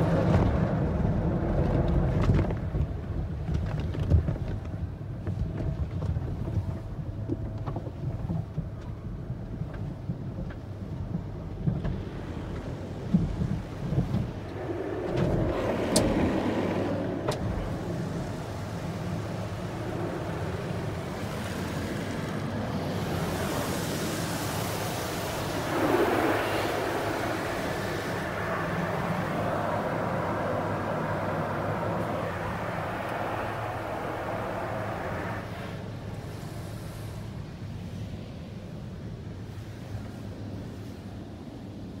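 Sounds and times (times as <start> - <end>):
car wash machinery rumble: 0.0 - 42.0.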